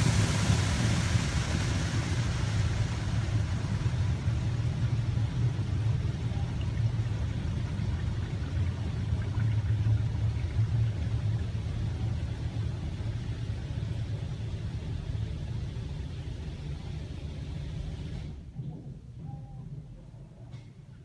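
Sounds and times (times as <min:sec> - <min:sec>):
water pouring on car roof: 0:00.0 - 0:18.2.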